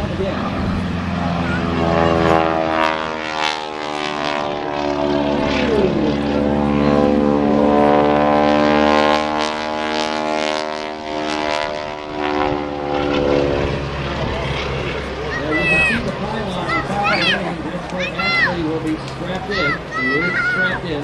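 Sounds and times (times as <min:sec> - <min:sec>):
propeller airplane engine droning: 0:00.0 - 0:21.0.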